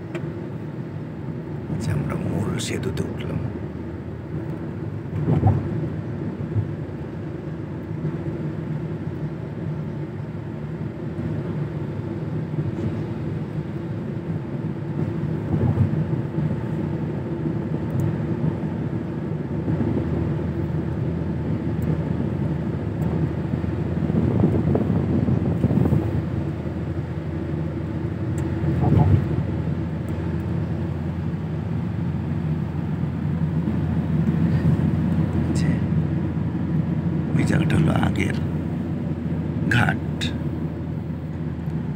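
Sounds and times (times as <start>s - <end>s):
engine and tyre drone in car cabin: 0.0s - 41.9s.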